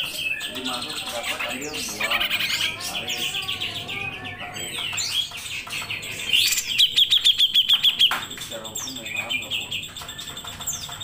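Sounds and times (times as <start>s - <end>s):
bird singing chirps and glides: 0.0s - 11.0s.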